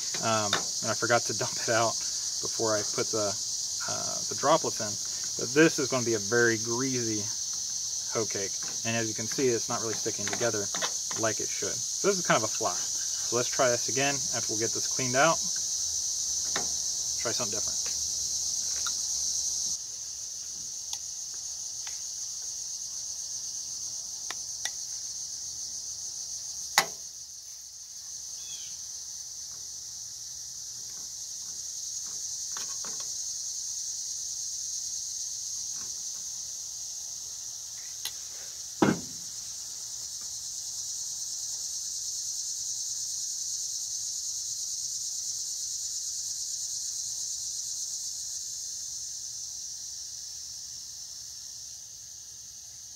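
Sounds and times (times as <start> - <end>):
insects chorus: 0.0 - 52.9.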